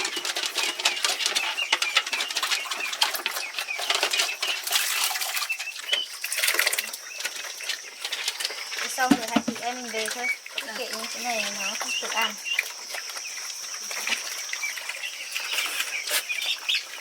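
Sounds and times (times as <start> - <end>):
pigs chomping: 0.0 - 17.0
pigs squeaking: 0.0 - 17.0.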